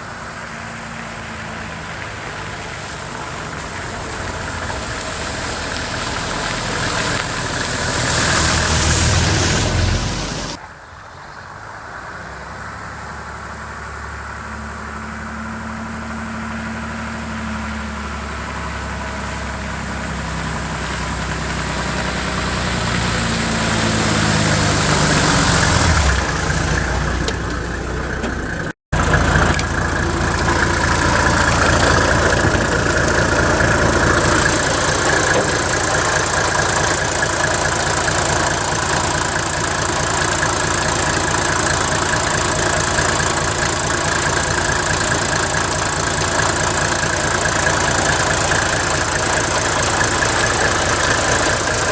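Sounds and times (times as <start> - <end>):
diesel engine running: 0.0 - 10.6, 11.6 - 51.9.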